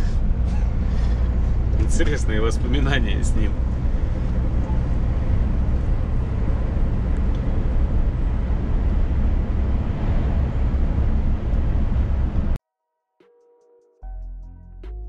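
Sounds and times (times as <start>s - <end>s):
truck engine drone: 0.0s - 12.6s.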